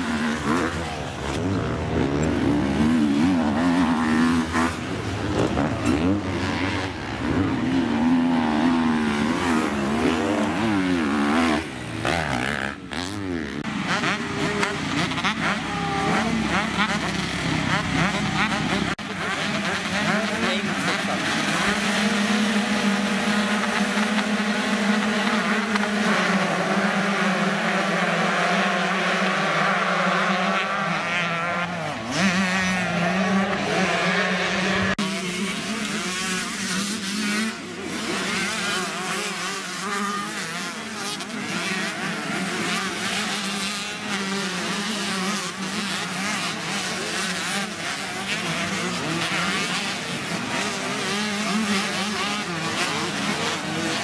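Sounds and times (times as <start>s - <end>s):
dirt bikes revving: 0.0s - 54.0s.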